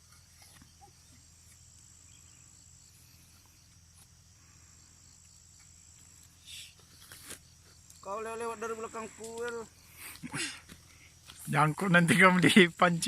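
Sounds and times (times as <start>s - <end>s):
crickets trilling: 0.0s - 13.0s
low background hum: 0.0s - 13.0s.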